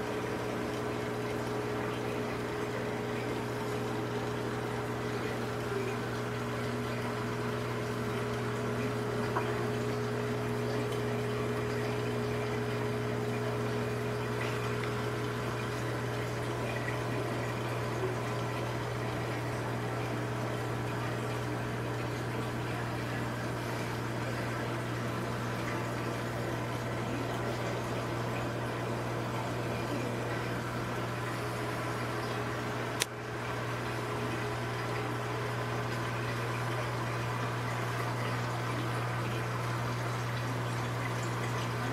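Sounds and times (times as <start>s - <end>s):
aquarium pump hum: 0.0s - 41.9s
water running and splashing: 0.0s - 41.9s.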